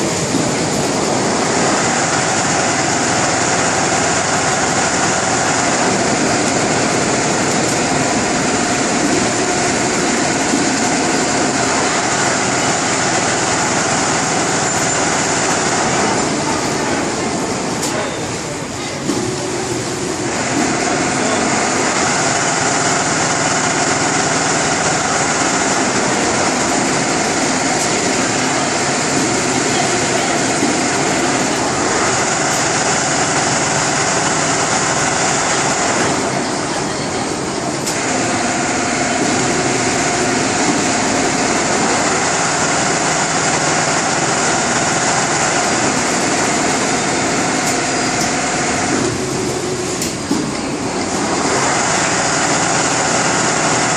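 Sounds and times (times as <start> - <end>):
high machine whine: 0.0 - 53.9
sewing machine whirring: 0.0 - 53.9.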